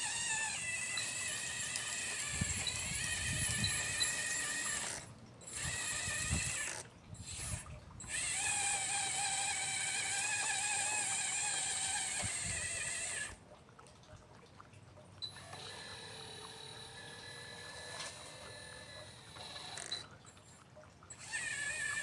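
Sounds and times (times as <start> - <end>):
electric motors whining: 0.0 - 13.4, 15.2 - 20.4, 21.1 - 22.0.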